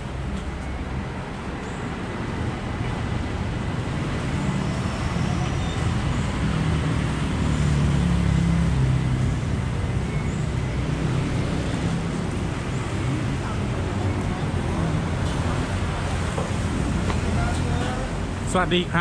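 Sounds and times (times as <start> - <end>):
traffic hum: 0.0 - 19.0.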